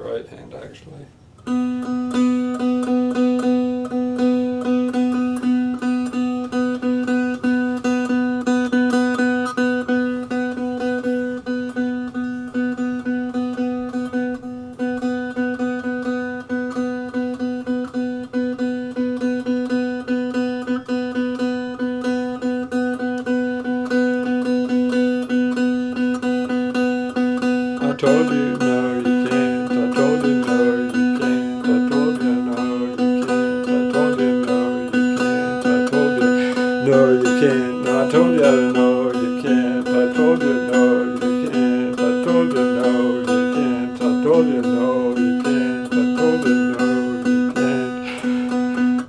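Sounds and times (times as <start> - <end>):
one-string instrument plucked: 1.4 - 49.0.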